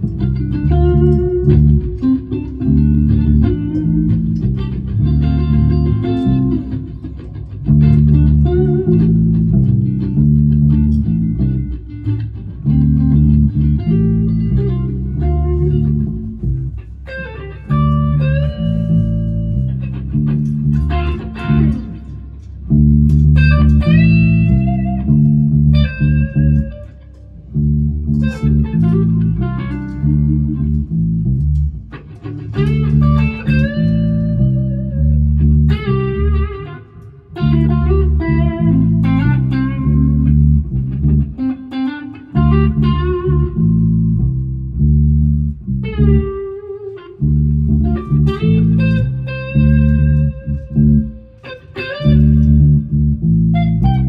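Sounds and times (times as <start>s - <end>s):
lead guitar notes with bends: 0.0s - 54.0s
low electric guitar riff: 0.0s - 54.0s.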